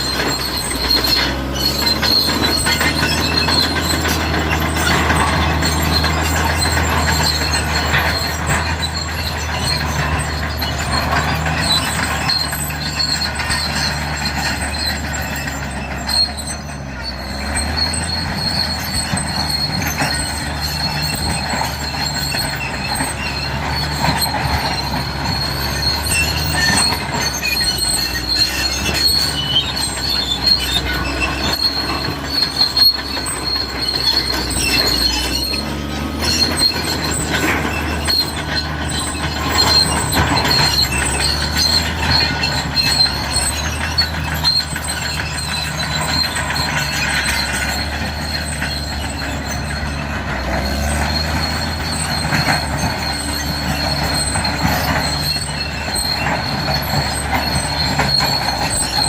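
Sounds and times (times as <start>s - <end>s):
bulldozer diesel engine: 0.0s - 59.0s
steel tracks squealing and clattering: 0.0s - 59.0s.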